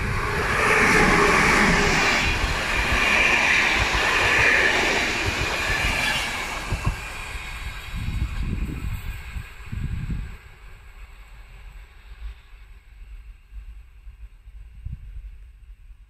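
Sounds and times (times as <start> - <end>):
passenger train passing: 0.0 - 14.1.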